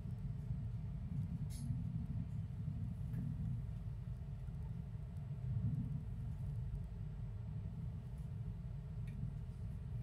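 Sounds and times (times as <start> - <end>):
train rumbling along track: 0.0 - 10.0.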